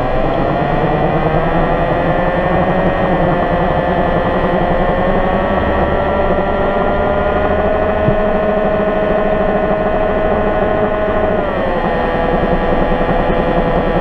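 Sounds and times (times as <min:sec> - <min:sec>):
engine running steadily: 0:00.0 - 0:14.0
whining tone drifting in pitch: 0:00.0 - 0:14.0.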